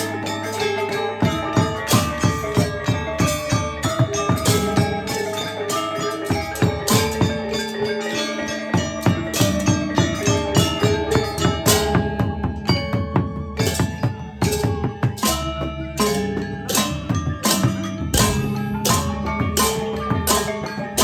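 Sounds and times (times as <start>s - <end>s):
gamelan metallophones struck: 0.0s - 21.0s.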